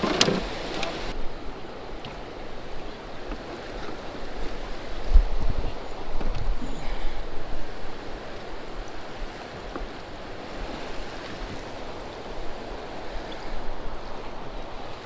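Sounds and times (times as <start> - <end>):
water: 0.0 - 15.0
wind: 0.0 - 15.0
wind buffeting microphone: 0.0 - 15.0.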